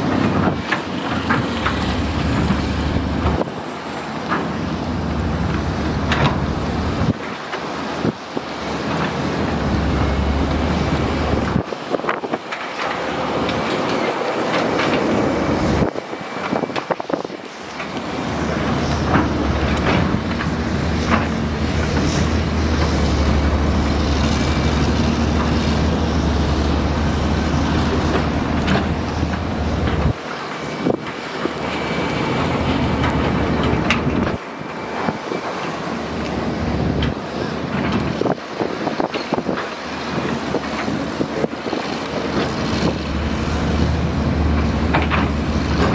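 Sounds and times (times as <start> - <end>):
diesel engine running under load: 0.0 - 45.9.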